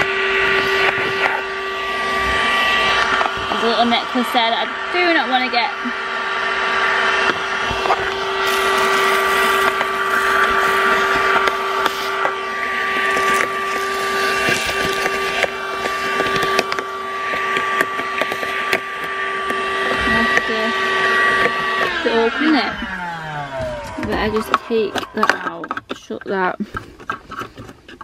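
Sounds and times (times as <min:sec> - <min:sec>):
car vacuum cleaner whining: 0:00.0 - 0:28.0.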